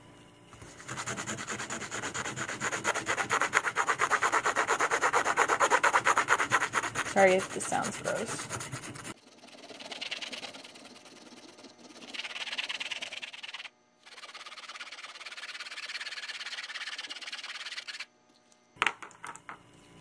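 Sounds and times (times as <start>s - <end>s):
marker scratching on canvas: 0.6s - 18.1s.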